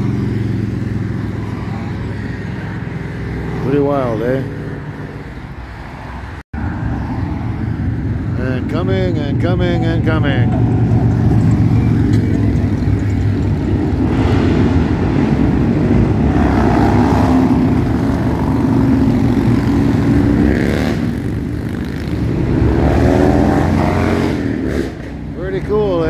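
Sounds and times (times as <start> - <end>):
motorcycles riding past: 0.0 - 9.3, 10.5 - 26.0.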